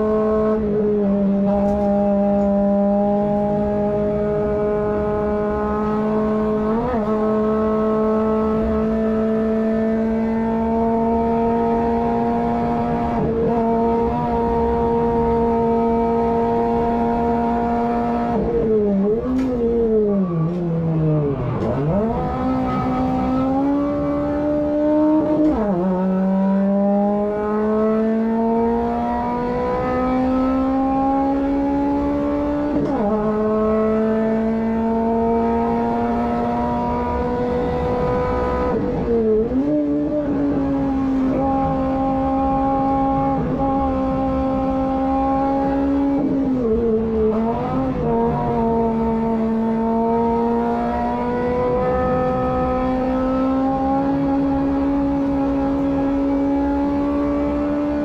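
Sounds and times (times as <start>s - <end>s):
car engine revving in cabin: 0.0s - 58.0s.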